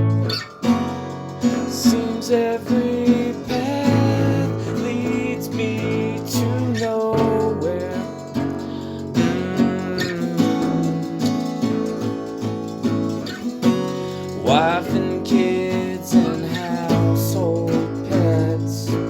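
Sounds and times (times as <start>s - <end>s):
acoustic guitar strumming: 0.0s - 19.0s
gliding melody line: 0.0s - 19.0s.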